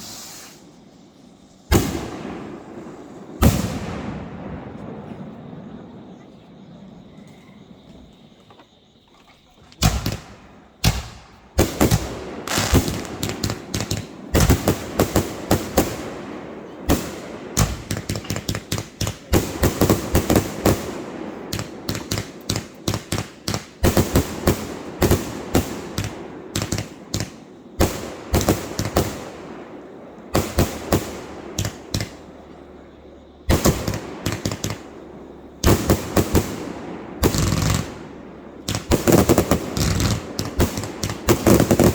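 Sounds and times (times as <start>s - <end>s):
fireworks bangs and crackles: 0.0s - 8.4s, 9.7s - 41.9s.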